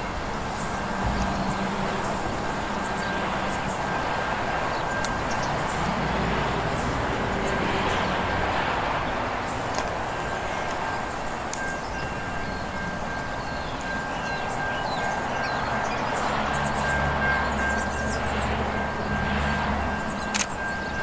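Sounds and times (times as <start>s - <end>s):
distant diesel train rumbling: 0.0s - 21.0s.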